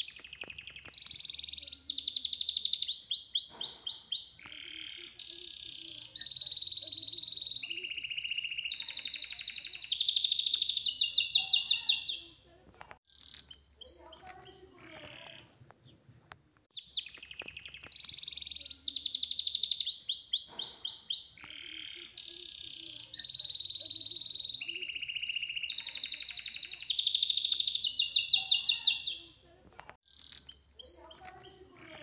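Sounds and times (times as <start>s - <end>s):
songbird trilling: 0.0s - 12.4s, 16.7s - 29.3s, 30.1s - 32.0s.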